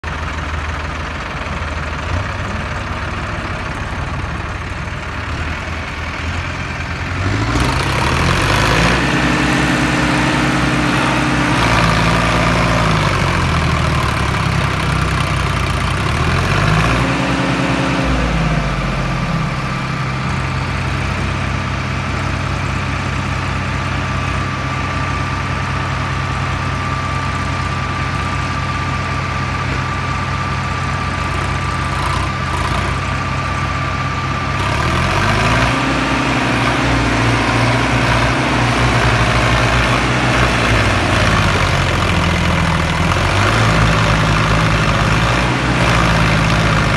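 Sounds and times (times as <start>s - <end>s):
diesel tractor engines revving: 0.0s - 46.9s.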